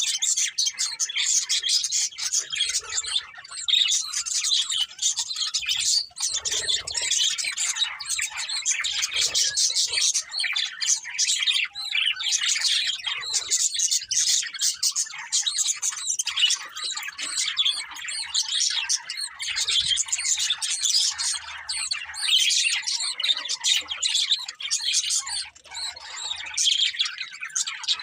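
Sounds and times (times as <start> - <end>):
budgerigars chirping: 0.0 - 28.0.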